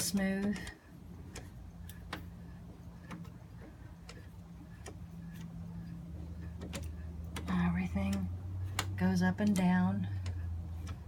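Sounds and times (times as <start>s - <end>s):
sewing machine mechanism clicking: 0.0s - 11.0s.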